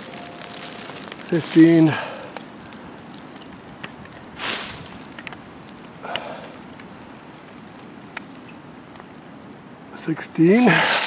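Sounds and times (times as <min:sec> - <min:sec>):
faint outdoor background: 0:00.0 - 0:11.0
rustling of dry leaf litter: 0:00.0 - 0:11.0
small ticks and crackles: 0:00.0 - 0:11.0.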